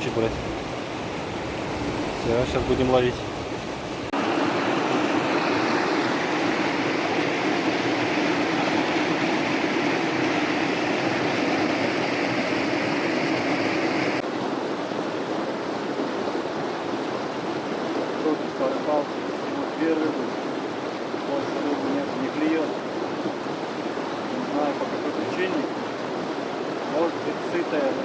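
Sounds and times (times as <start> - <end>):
river over small waterfall: 0.0 - 28.0.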